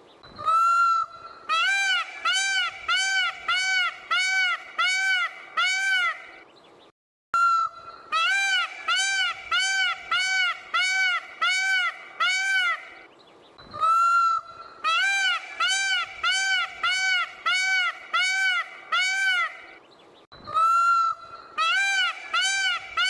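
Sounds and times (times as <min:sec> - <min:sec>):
peacock calling: 0:00.3 - 0:06.5, 0:07.4 - 0:19.8, 0:20.4 - 0:23.0.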